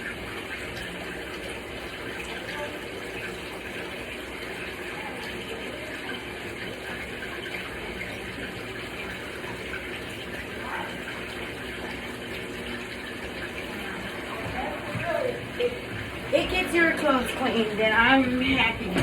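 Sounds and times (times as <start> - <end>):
water rushing in washing machine: 0.0 - 19.0.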